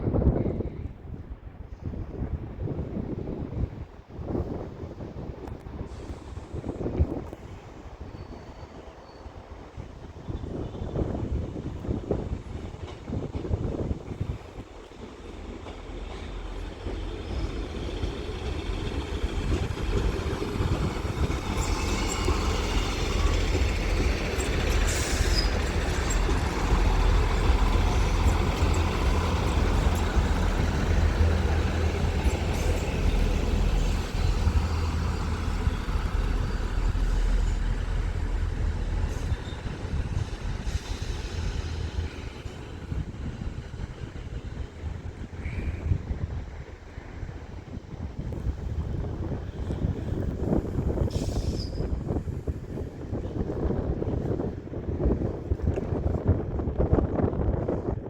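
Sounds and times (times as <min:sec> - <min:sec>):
diesel train engine rumble: 0:00.0 - 0:58.0
rail noise: 0:00.0 - 0:58.0.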